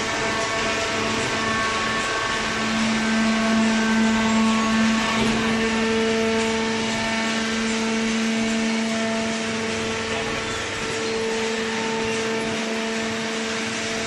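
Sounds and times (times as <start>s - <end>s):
baler machine hum and whine: 0.0s - 14.0s.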